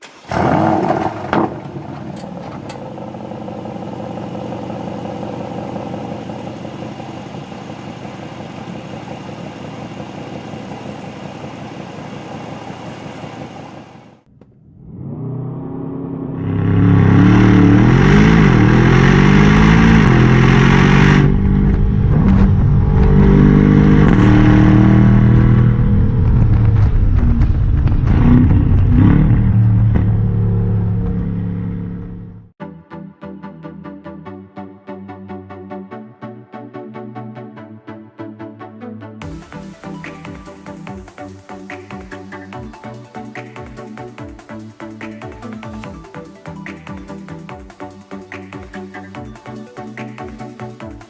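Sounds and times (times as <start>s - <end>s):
car engine idling and revving: 0.0s - 32.6s, 39.2s - 51.0s.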